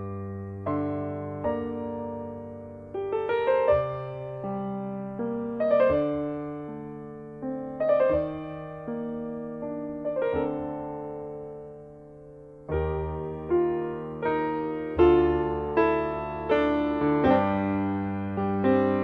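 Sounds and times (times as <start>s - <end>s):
slow gentle piano piece: 0.0s - 19.0s.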